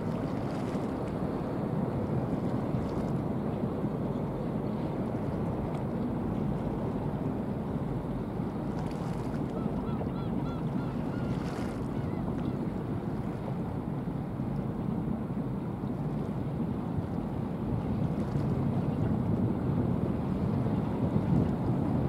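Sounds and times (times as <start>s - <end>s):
wash on the water: 0.0s - 22.0s
wind noise on microphone: 0.0s - 22.0s.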